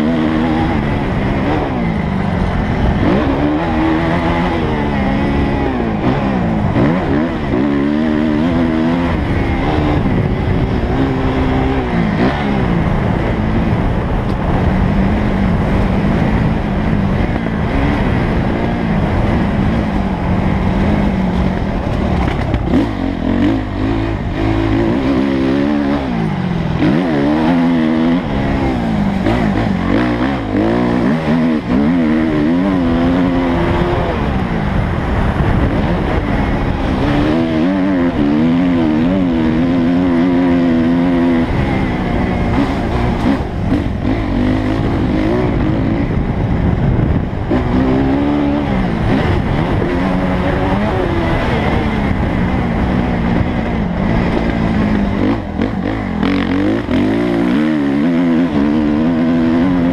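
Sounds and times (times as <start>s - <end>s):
motocross bike engine revving: 0.0s - 59.9s
track noise: 0.0s - 59.9s
wind noise: 0.0s - 59.9s.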